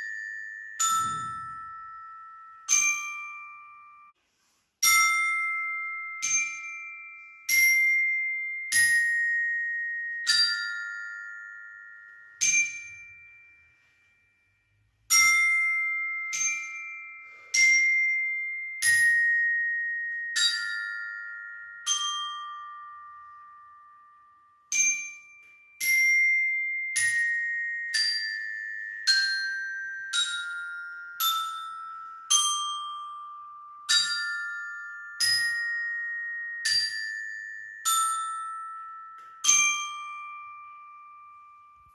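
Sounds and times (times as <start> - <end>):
glockenspiel melody: 0.0 - 41.9.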